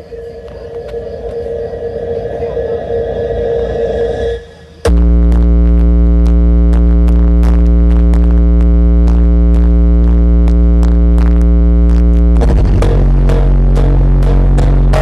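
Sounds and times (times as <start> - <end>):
loud electronic dance music: 1.2 - 15.0.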